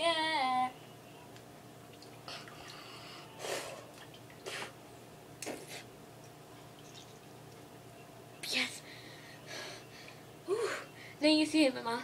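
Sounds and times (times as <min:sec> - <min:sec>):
faint fan hum: 0:00.0 - 0:12.0.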